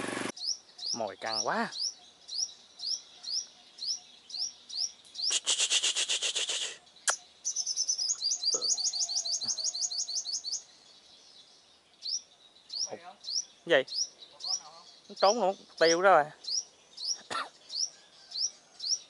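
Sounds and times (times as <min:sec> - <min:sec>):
bird decoy chirping: 0:00.3 - 0:19.0.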